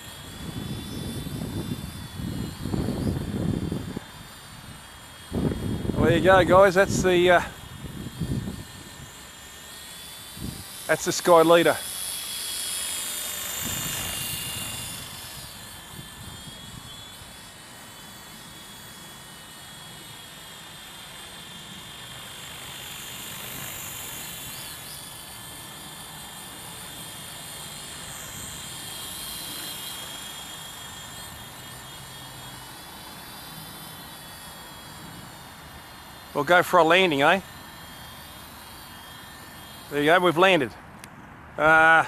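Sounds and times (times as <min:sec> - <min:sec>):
toy helicopter rotor whine: 0:00.0 - 0:42.0.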